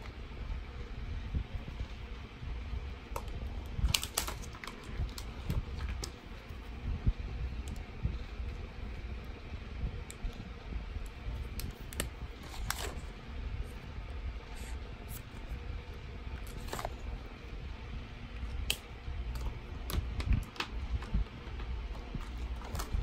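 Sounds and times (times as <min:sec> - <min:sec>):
low handling rumble: 0:00.0 - 0:23.0.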